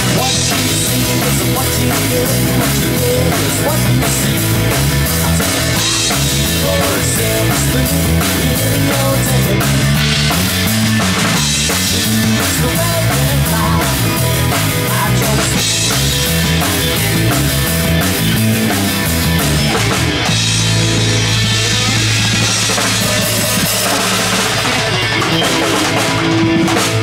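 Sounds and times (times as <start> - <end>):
bass guitar: 0.0 - 27.0
drum kit: 0.0 - 27.0
electric guitar: 0.0 - 27.0.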